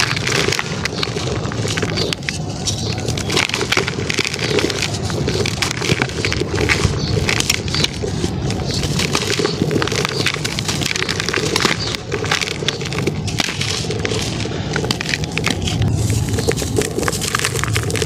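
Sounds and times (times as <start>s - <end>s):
dry sand crunching: 0.0s - 18.0s.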